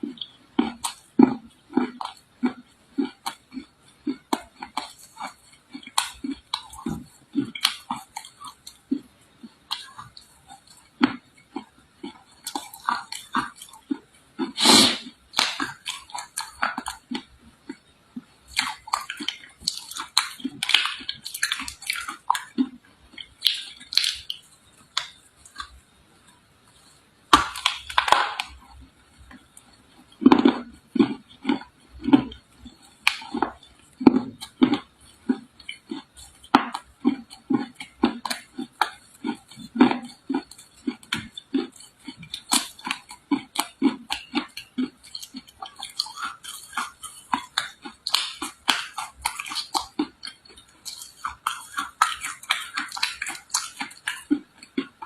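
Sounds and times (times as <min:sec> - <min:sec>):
person chewing crunchy clay: 0:00.0 - 0:55.0.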